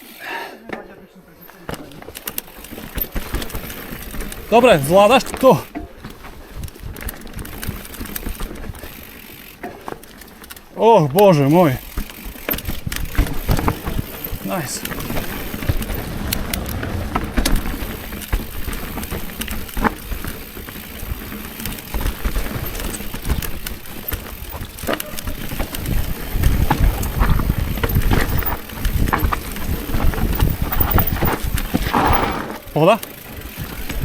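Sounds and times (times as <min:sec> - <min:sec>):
bike clicks and rattles: 0:00.0 - 0:34.0
tyres over rough ground: 0:00.6 - 0:34.0.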